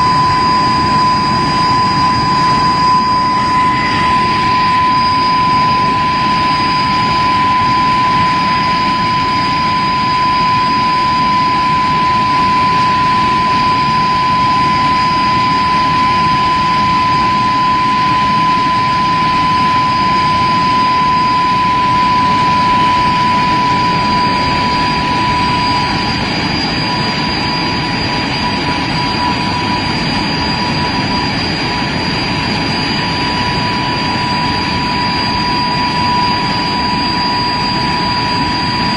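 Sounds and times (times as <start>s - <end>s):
jet engine running: 0.0s - 38.9s.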